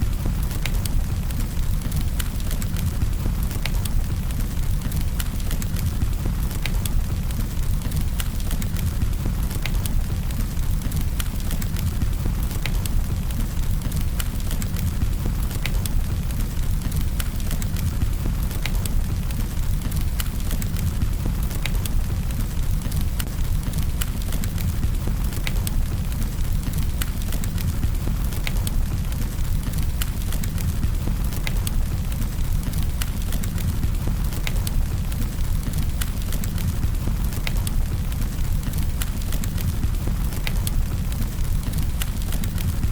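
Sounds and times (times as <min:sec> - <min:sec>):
campfire flames rumbling: 0:00.0 - 0:42.9
wood crackling and popping: 0:00.0 - 0:42.9.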